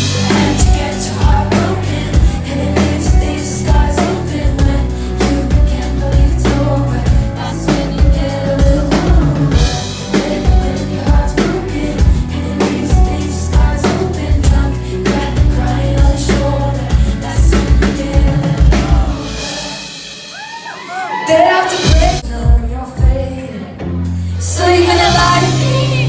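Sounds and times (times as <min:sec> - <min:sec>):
woman singing: 0:00.0 - 0:20.1, 0:21.1 - 0:26.0
pop band playing: 0:00.0 - 0:26.0.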